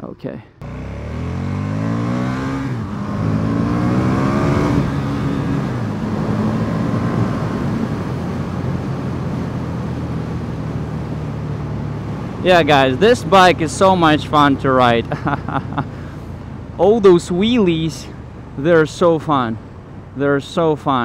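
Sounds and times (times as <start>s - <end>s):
motorcycle engine accelerating: 0.6s - 17.6s.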